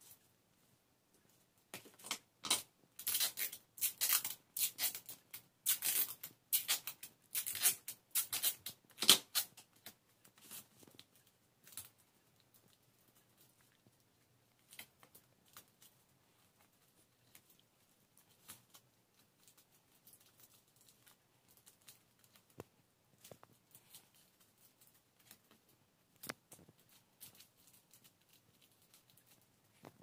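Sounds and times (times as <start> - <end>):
sticky tape crackling and rustling: 1.2 - 30.0.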